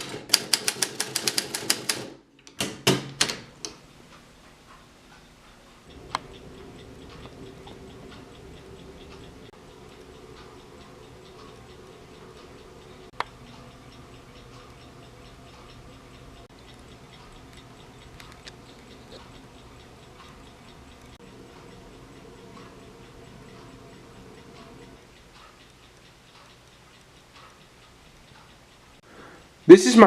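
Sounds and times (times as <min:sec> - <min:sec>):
low room hum: 0:02.2 - 0:30.0
steady light ticking: 0:03.6 - 0:30.0.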